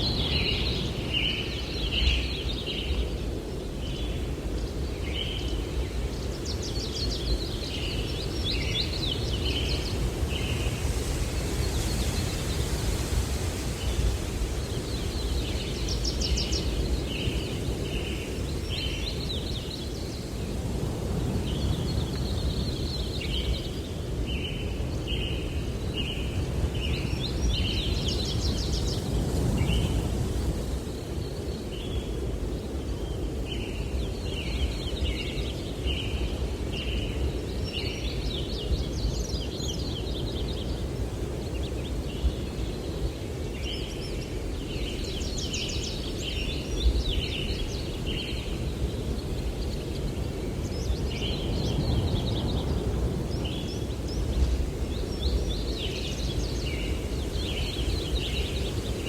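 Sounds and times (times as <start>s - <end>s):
low wind rumble: 0.0s - 59.0s
songbirds chirping: 0.0s - 59.0s.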